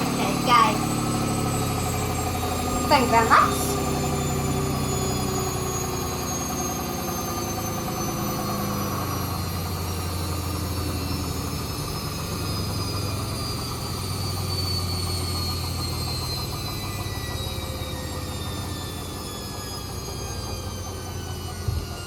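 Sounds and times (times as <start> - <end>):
high motor whine: 0.0 - 22.0.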